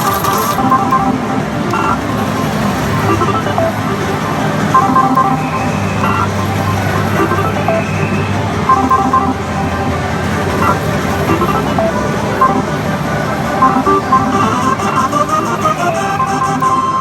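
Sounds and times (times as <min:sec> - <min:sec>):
electronic beep patterns: 0:00.0 - 0:17.0.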